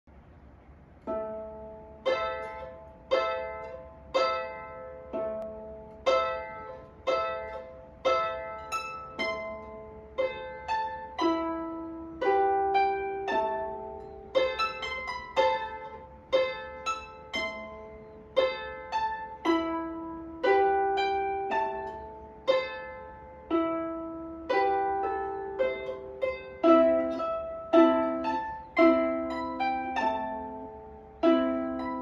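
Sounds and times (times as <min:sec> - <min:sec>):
harp plucked notes and chords: 0:01.0 - 0:32.0.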